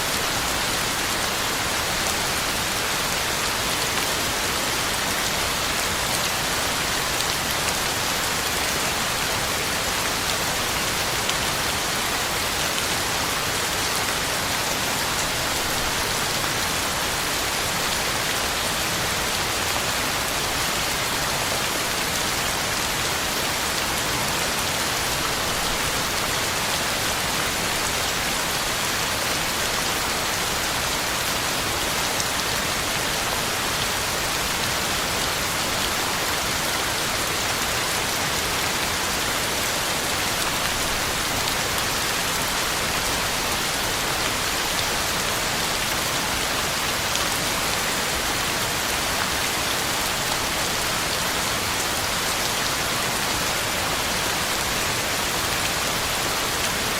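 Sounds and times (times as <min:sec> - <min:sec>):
heavy rain on ground and leaves: 0:00.0 - 0:56.9.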